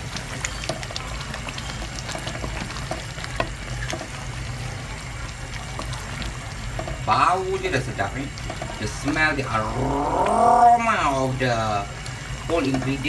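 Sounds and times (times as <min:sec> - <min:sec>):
wooden spatula stirring in wok: 0:00.0 - 0:10.6, 0:11.4 - 0:13.0
gravy simmering and bubbling: 0:00.0 - 0:13.0.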